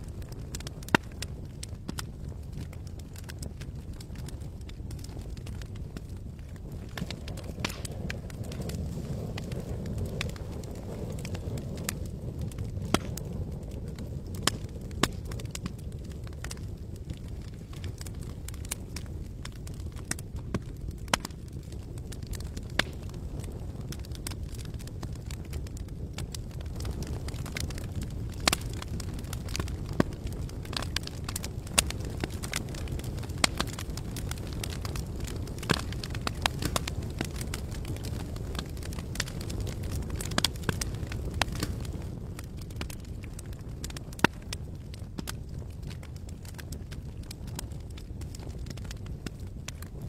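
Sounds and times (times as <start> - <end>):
campfire crackling: 0.0 - 50.0
sharp fire pops: 0.0 - 50.0.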